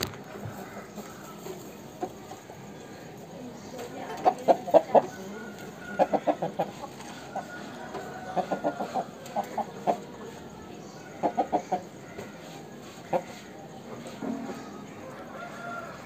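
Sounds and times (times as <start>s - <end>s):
chicken clucking: 0.0s - 16.0s.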